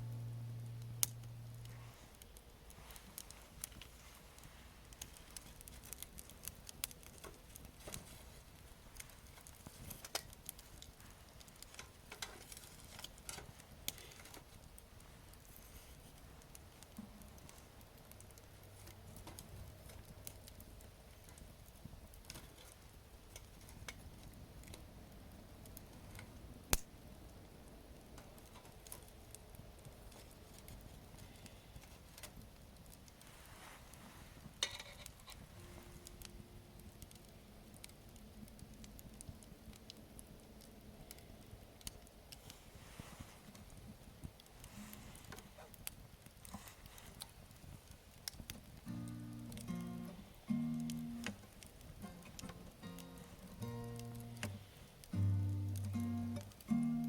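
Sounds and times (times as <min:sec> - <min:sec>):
loud fire crack: 0:00.0 - 0:57.0
wood fire crackling: 0:00.0 - 0:57.0.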